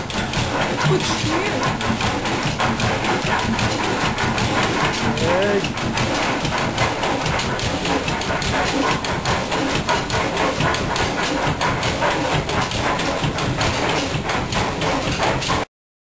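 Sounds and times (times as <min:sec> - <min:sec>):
diesel engine clattering: 0:00.0 - 0:15.7.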